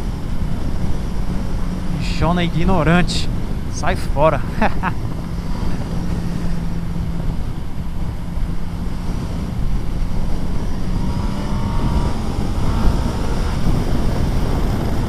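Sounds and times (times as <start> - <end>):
motorcycle engine cruising: 0.0 - 15.0
wind rush over microphone: 0.0 - 15.0.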